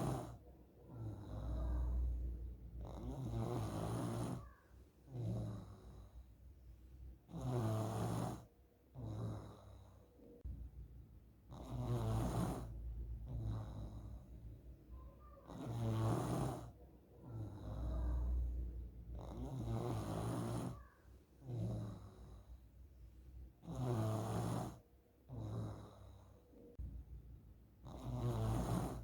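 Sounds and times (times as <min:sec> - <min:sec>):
child snoring: 0:00.0 - 0:06.4, 0:07.3 - 0:10.1, 0:11.5 - 0:22.6, 0:23.6 - 0:26.4, 0:27.8 - 0:29.0.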